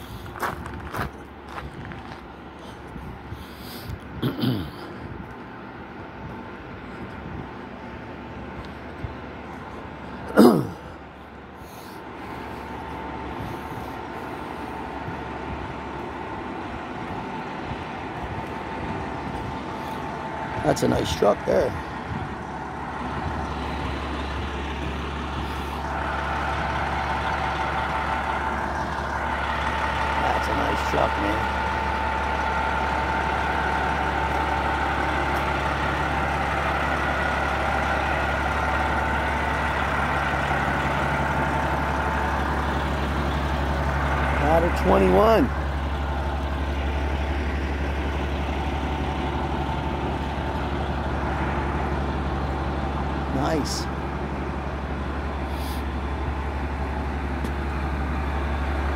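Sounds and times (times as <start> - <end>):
diesel engine rumbling: 0.0 - 58.9.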